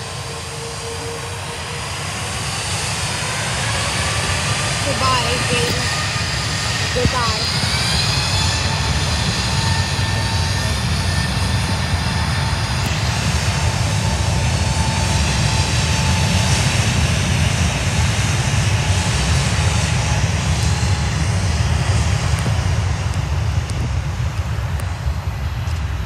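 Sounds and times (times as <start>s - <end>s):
jet engines rumbling: 0.0s - 26.0s
thin jet engine whine: 0.0s - 26.0s.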